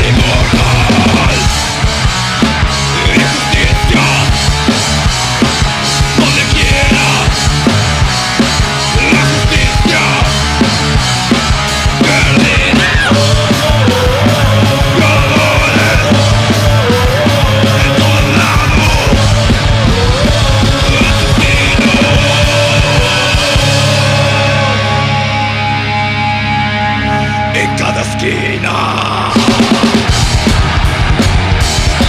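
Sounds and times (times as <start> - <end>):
fast drumming: 0.0 - 24.7, 28.9 - 32.0
distorted electric guitars: 0.0 - 32.0
high pitch-bending guitar line: 0.0 - 32.0.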